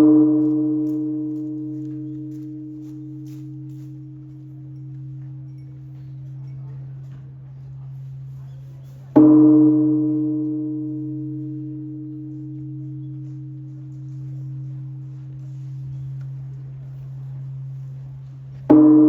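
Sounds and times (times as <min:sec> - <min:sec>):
gong ringing: 0:00.0 - 0:06.4, 0:09.2 - 0:16.4, 0:17.4 - 0:19.0.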